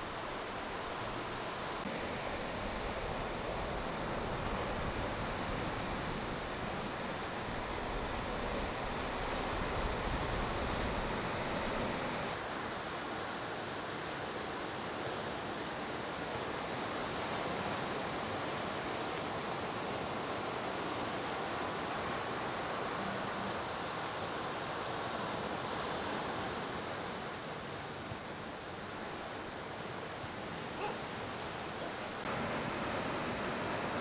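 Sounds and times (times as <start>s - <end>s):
waves breaking on beach: 0.0s - 34.0s.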